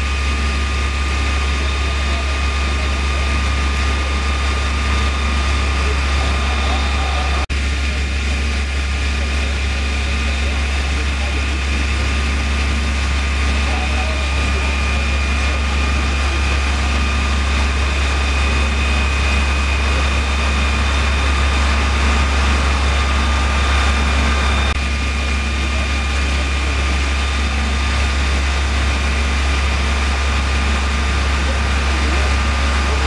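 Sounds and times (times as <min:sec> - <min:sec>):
diesel engine humming: 0:00.0 - 0:33.0
thin steady whine: 0:00.0 - 0:33.0.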